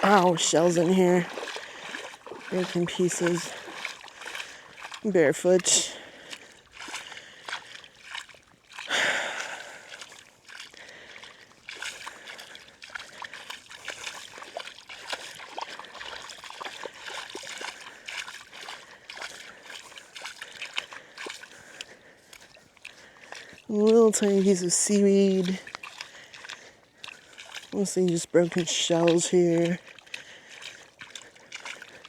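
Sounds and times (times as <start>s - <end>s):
feet splashing in shallow water: 0.0s - 32.0s
water dripping: 0.0s - 32.0s.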